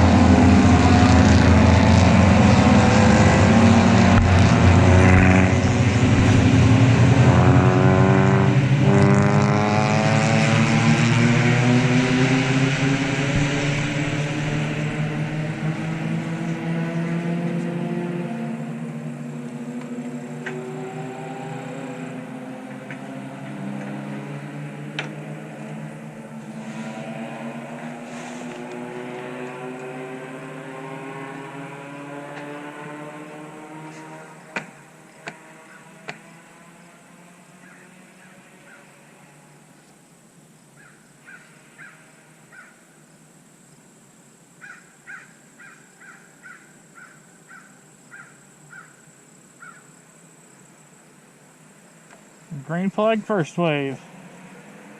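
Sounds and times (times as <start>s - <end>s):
race car engines droning: 0.0s - 43.0s, 46.5s - 54.9s.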